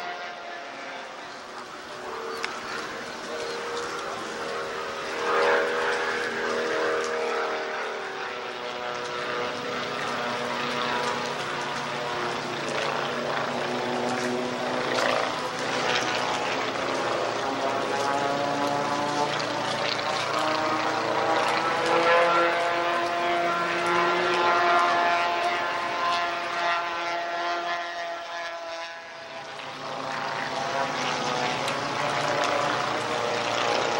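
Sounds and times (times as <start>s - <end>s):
propeller planes droning past: 0.0s - 33.9s.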